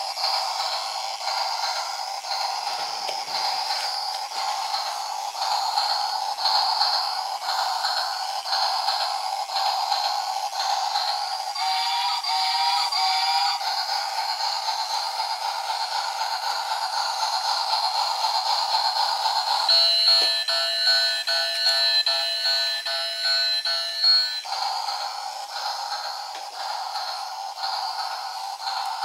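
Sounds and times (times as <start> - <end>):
toy train electronic tune: 0.0 - 29.0
toy train motor whirring: 0.0 - 29.0.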